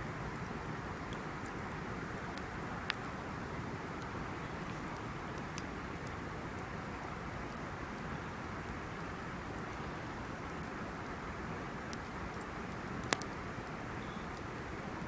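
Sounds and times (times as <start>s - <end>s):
wood fire burning: 0.0s - 15.0s
fire crackles and pops: 0.1s - 15.0s.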